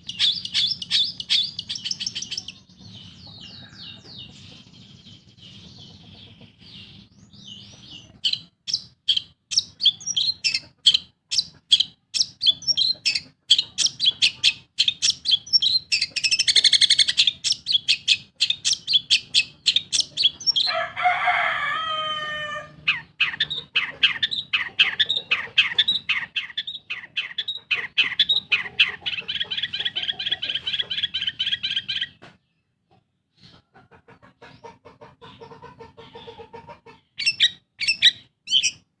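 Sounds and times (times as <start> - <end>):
bird harsh chatter: 0.0 - 20.7, 22.5 - 32.2, 34.2 - 38.9
bird singing high chirps: 0.0 - 20.7, 22.8 - 32.2, 37.1 - 38.9.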